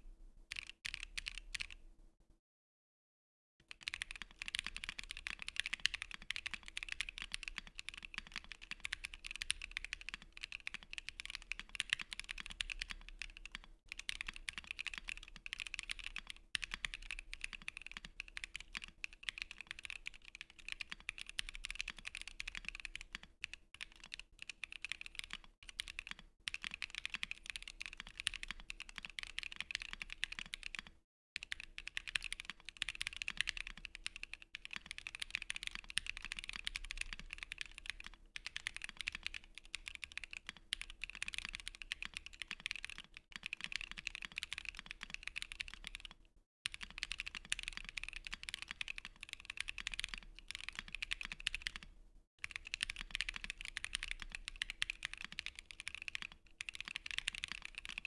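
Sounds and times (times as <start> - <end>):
mechanical keyboard typing: 0.5 - 1.8, 3.6 - 58.0.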